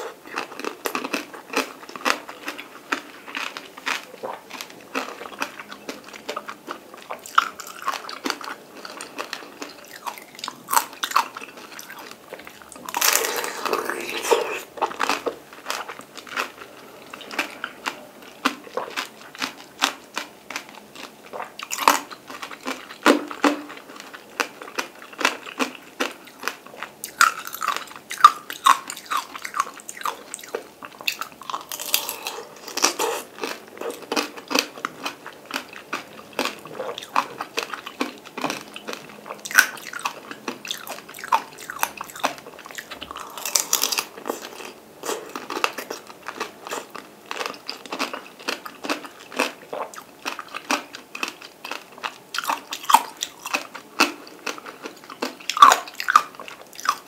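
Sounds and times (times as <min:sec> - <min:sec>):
person chewing orange: 0:00.0 - 0:57.0.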